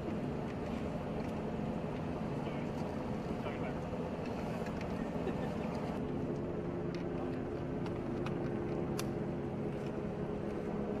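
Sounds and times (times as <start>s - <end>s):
idling vehicle engines hum: 0.0s - 11.0s.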